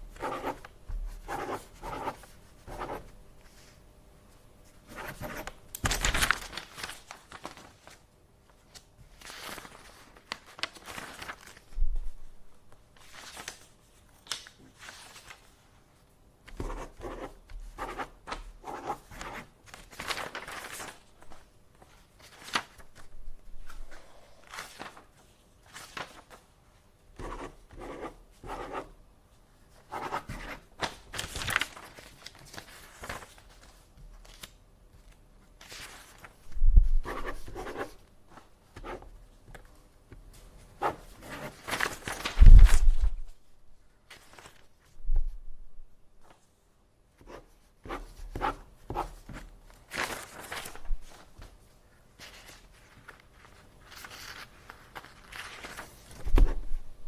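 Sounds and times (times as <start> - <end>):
paper rustling and shuffling: 0.1 - 28.8, 29.9 - 45.5, 47.2 - 57.0.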